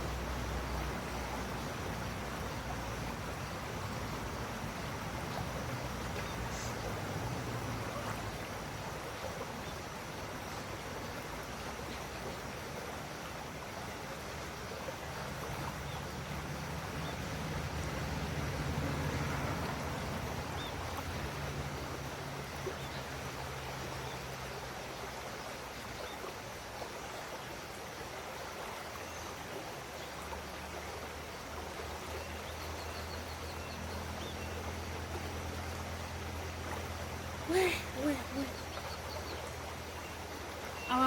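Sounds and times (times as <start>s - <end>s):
outdoor background noise: 0.0s - 41.0s.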